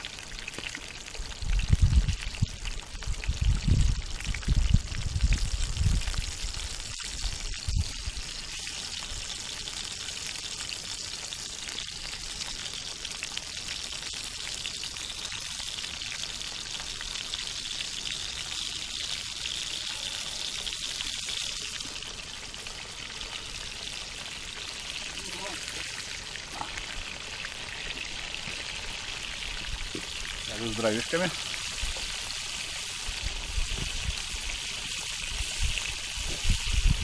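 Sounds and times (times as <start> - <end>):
fish sizzling over wood fire: 0.0 - 37.0.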